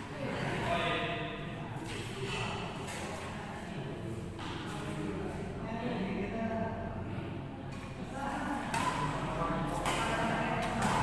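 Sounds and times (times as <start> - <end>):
indistinct voices chattering indoors: 0.0 - 11.0.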